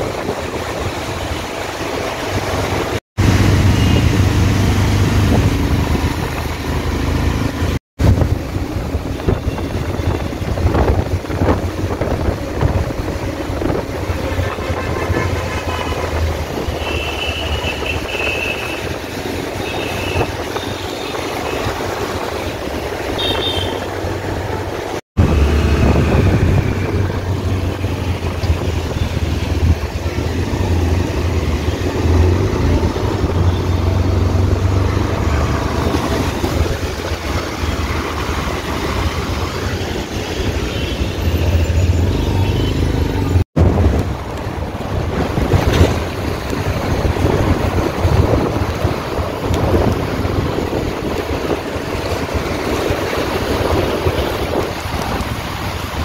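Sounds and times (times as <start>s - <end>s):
tyre and wind noise: 0.0s - 56.0s.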